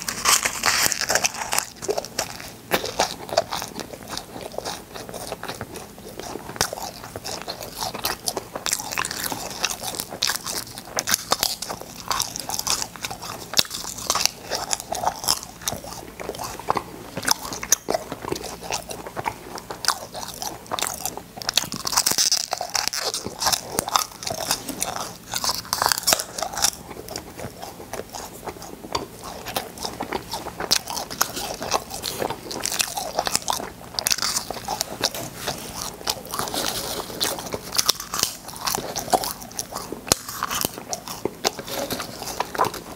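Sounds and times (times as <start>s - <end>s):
candy crunching and chewing: 0.0s - 42.9s.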